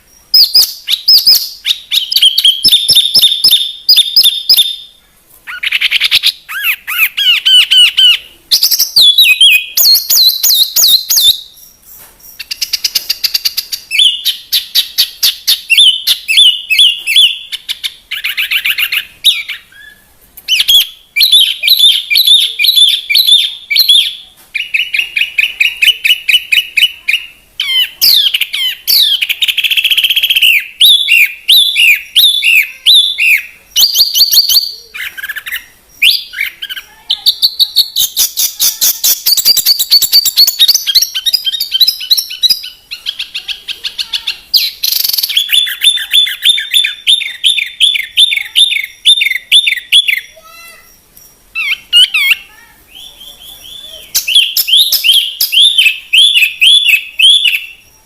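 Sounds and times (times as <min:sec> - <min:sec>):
bird chirps and trills: 0:00.0 - 0:58.0.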